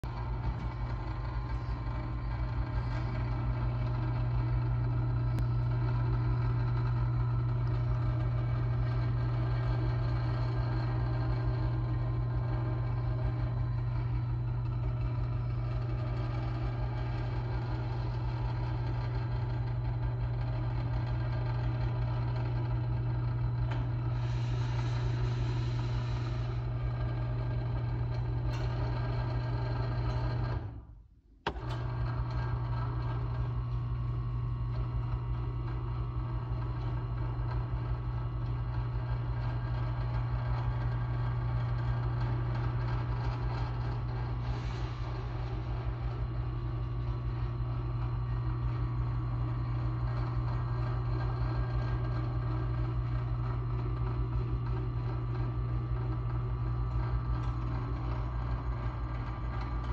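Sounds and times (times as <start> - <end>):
electric winch motor humming: 0.0 - 59.9.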